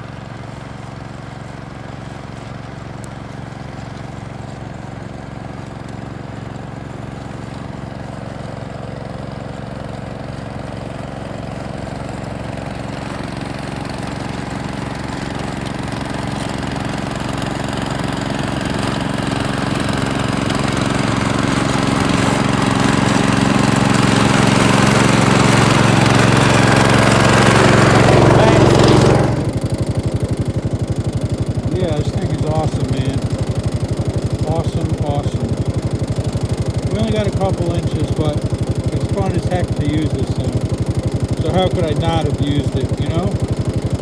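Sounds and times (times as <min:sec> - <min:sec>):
snow blower engine running: 0:00.0 - 0:44.0.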